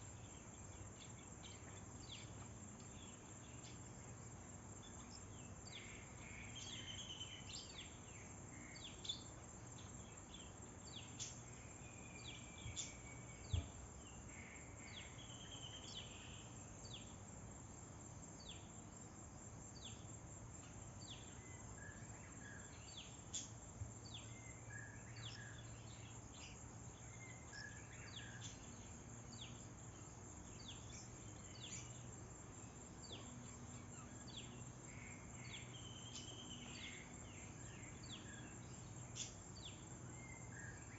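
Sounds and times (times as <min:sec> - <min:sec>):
faint low hum: 0:00.0 - 0:40.9
high insect drone: 0:00.0 - 0:40.9.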